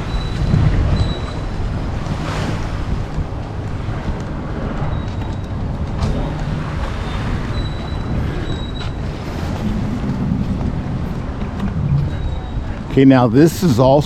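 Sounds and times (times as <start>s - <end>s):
small surf washing: 0.0s - 14.0s
wind buffeting microphone: 0.0s - 14.0s.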